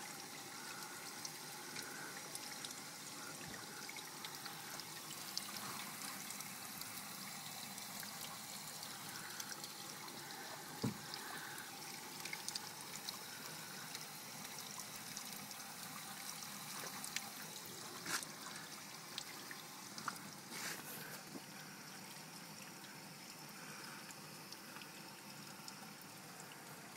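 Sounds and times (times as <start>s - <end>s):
small drips and ticks: 0.0s - 26.9s
water trickling: 0.0s - 26.9s.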